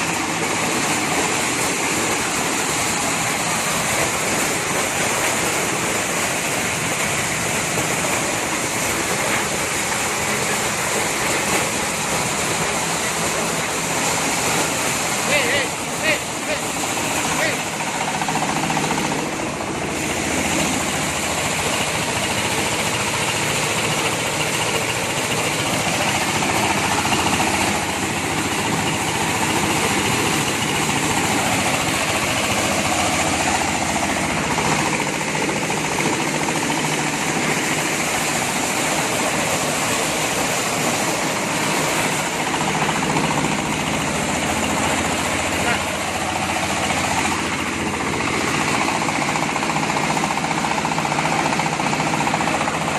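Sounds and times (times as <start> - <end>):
corn sheller mechanical noise: 0.0 - 52.9
low engine hum: 0.0 - 52.9.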